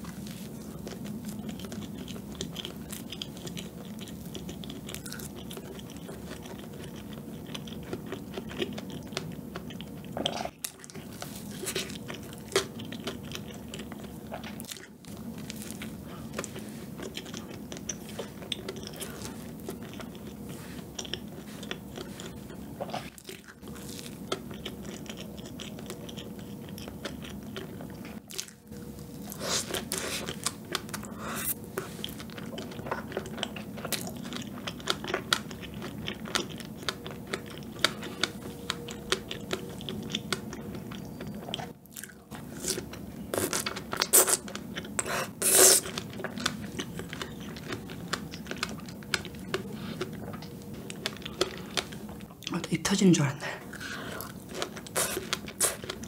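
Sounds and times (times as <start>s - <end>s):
chewing cake: 0.0s - 52.9s, 53.6s - 56.0s.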